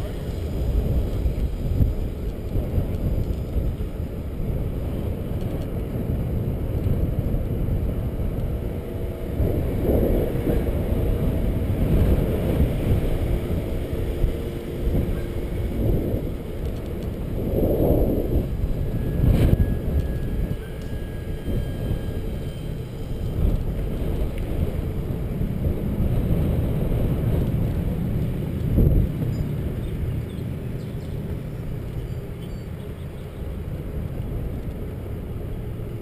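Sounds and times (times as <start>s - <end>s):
bicycle riding noise: 0.0s - 36.0s
wind buffeting microphone: 0.0s - 36.0s.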